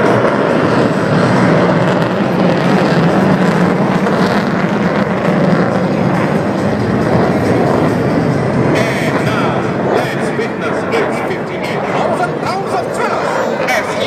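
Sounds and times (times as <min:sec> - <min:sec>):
fighter jet roar: 0:00.0 - 0:14.0.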